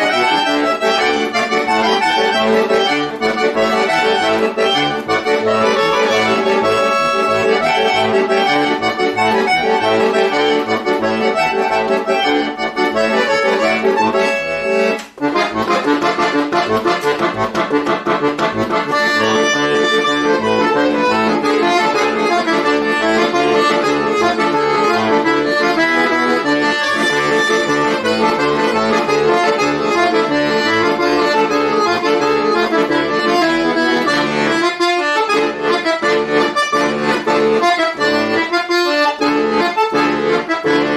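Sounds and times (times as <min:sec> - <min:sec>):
button accordion playing: 0:00.0 - 0:40.9.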